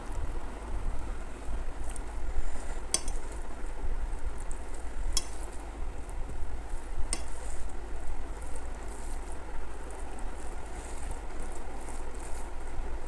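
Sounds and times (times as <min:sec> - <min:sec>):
chewing and mixing food: 0:00.9 - 0:13.0.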